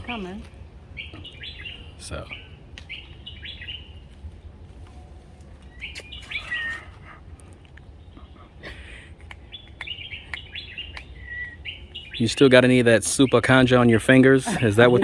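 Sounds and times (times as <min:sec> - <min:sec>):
birds chirping and calling: 0:00.0 - 0:04.7, 0:05.5 - 0:15.0
steady low rumble: 0:00.0 - 0:15.0.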